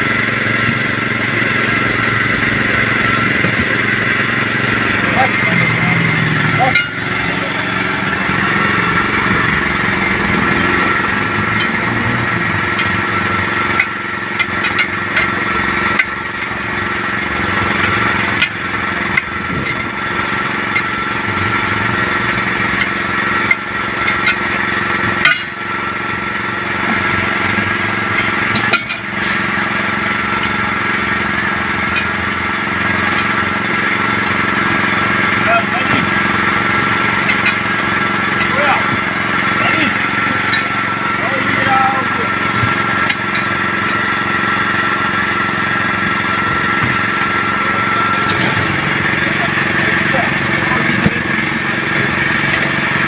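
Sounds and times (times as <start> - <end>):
engine hum: 0.0 - 53.0.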